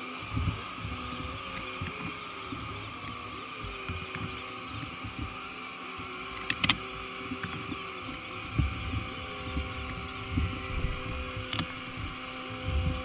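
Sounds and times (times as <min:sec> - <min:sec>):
honeybees buzzing: 0:00.0 - 0:13.0
wooden click of hive frames: 0:00.0 - 0:13.0.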